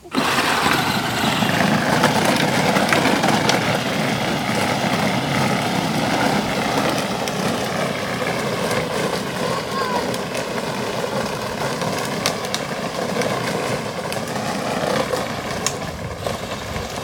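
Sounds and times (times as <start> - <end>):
electric motor whir: 0.0 - 16.9
plastic wheels rolling on wet pavement: 0.0 - 17.0.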